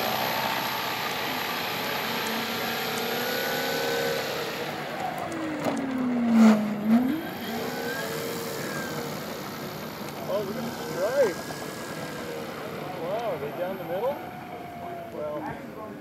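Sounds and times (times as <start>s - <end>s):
electric motor and propeller: 0.0s - 15.5s.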